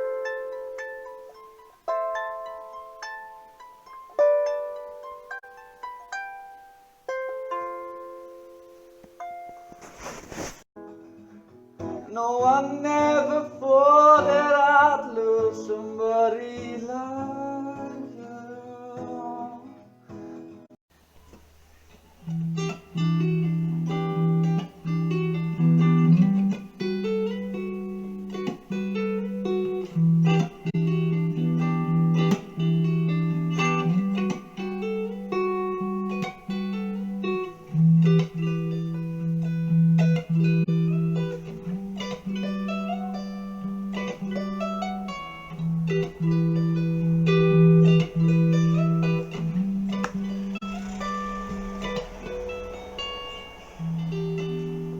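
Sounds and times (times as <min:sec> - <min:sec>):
plucked guitar music: 0:00.0 - 0:09.8, 0:10.8 - 0:20.6, 0:21.2 - 0:54.9.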